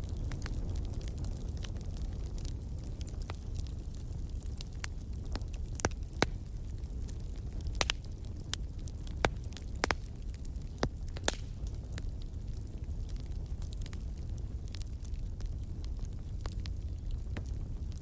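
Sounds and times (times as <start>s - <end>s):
fire crackling: 0.0s - 18.0s
flames rumbling: 0.0s - 18.0s.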